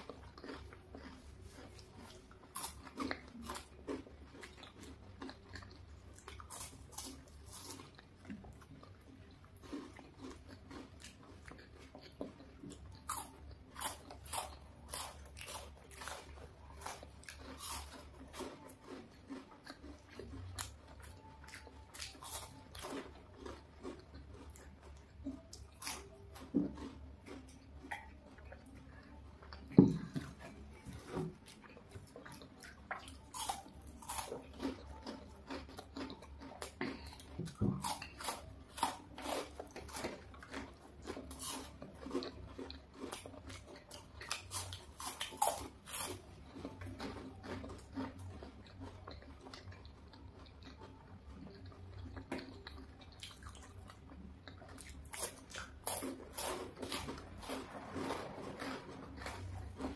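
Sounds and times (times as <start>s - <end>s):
crunching and chewing chocolate: 0.0s - 59.9s
faint low hum: 0.0s - 59.9s.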